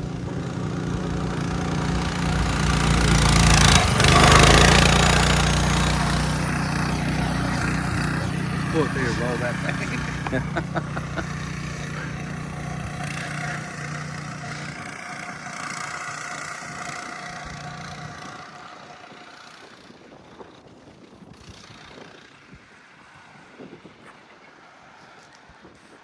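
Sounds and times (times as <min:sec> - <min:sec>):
small vehicle engine running: 0:00.0 - 0:25.7.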